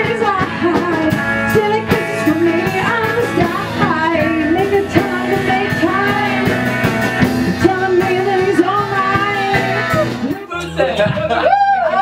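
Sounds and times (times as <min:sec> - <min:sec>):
woman singing into a microphone: 0:00.0 - 0:10.3
rock and roll band: 0:00.0 - 0:12.0.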